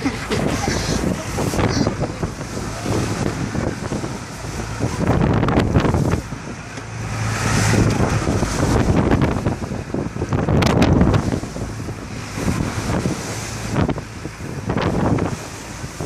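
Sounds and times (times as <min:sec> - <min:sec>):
waves surging: 0:00.0 - 0:16.0
wind buffeting microphone: 0:00.0 - 0:16.0.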